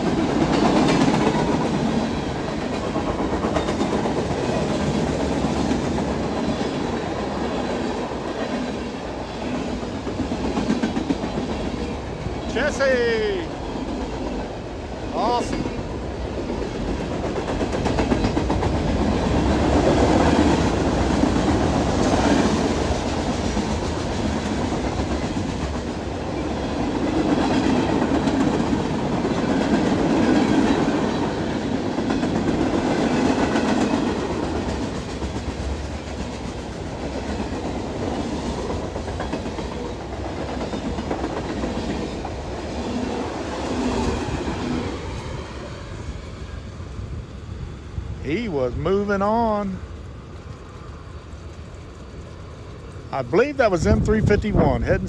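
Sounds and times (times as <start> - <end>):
freight train clattering over rails: 0.0 - 55.0.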